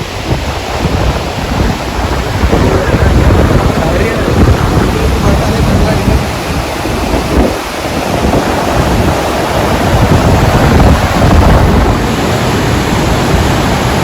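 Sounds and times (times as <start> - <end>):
waterfall roaring: 0.0 - 14.0
wind buffeting microphone: 0.0 - 14.0.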